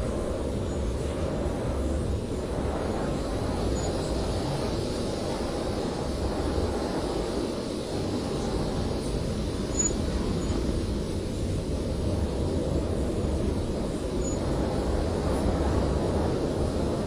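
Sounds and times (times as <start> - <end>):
blizzard wind rushing: 0.0 - 17.0.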